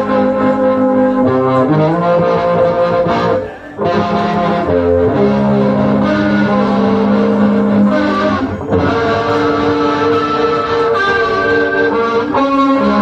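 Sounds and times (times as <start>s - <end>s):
bass guitar: 0.0s - 13.0s
electric guitar chords: 0.0s - 13.0s.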